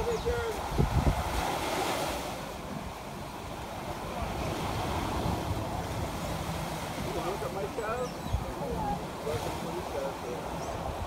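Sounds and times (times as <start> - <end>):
small surf: 0.0 - 11.0
wind buffeting microphone: 0.0 - 11.0.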